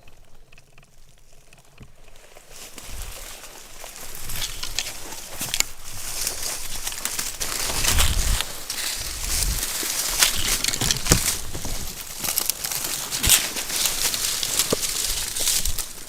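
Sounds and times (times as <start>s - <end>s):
rustling and crackling: 0.0s - 16.0s.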